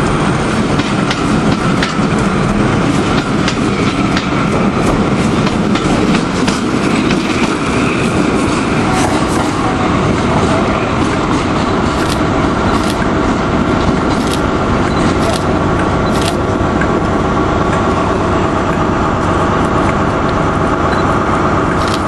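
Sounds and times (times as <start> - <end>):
diesel locomotive engine growl: 0.0 - 22.0.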